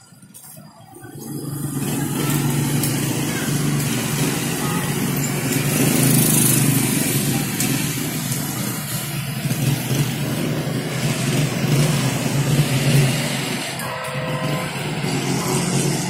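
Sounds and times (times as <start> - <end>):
road noise: 0.0 - 16.0
vehicle engine running: 0.0 - 16.0.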